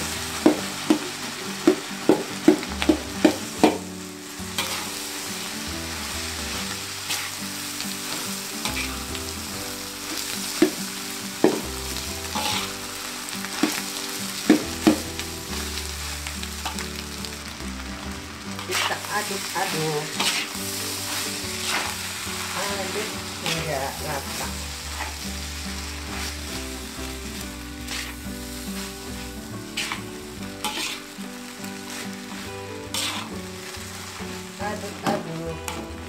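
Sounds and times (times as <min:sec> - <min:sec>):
rice sizzling in a wok: 0:00.0 - 0:36.0
spatula knocking and scraping wok: 0:00.1 - 0:15.8, 0:18.6 - 0:36.0.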